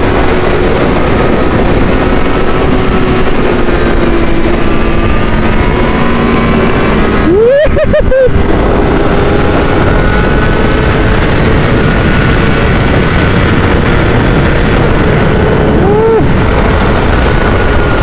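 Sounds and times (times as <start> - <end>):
motorcycle engine at high revs: 0.0 - 18.0
wind rushing: 0.0 - 18.0.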